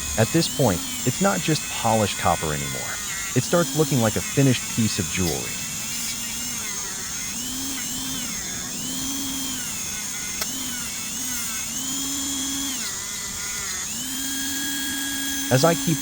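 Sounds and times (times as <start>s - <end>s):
electric polishing tool whine: 0.0s - 16.0s.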